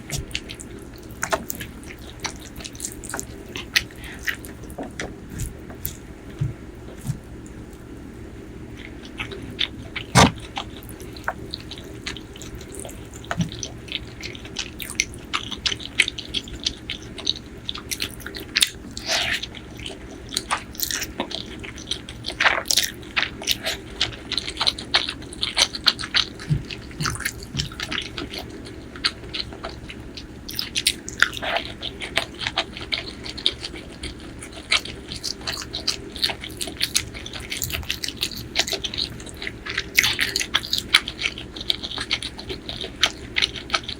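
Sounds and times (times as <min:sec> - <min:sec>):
wet chewing mouth clicks: 0:00.0 - 0:07.8, 0:08.7 - 0:43.9.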